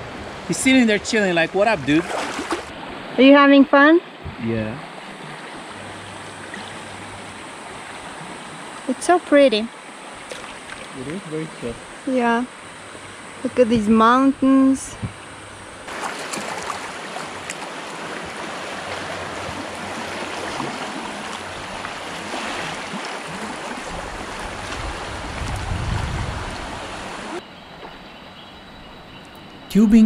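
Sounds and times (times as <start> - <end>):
river water rushing: 0.0 - 13.6, 14.5 - 27.4.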